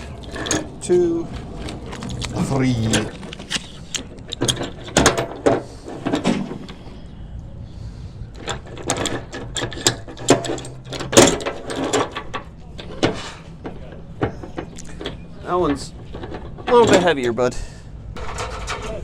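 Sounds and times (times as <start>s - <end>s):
rope pulleys clicking and clanking: 0.0s - 6.9s, 8.3s - 17.6s.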